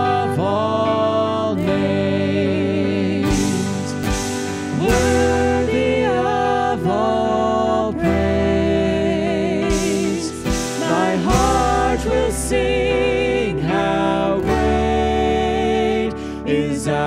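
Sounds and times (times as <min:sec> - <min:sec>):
instrumental backing: 0:00.0 - 0:17.0
person singing with vibrato: 0:00.0 - 0:17.0.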